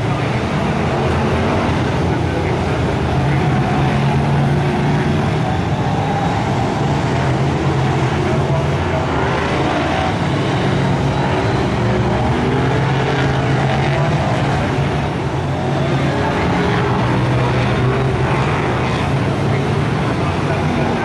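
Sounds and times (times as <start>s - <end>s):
racing car engines droning: 0.0s - 21.0s.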